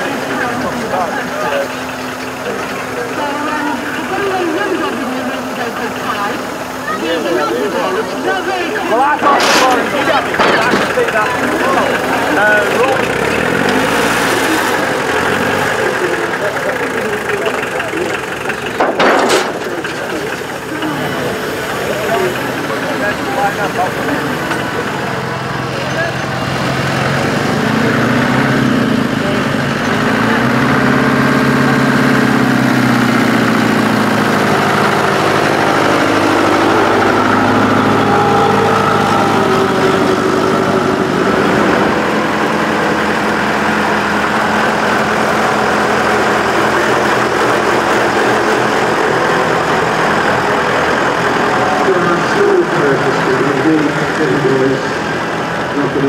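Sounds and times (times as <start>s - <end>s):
lorry engine driving past: 0.0s - 56.0s.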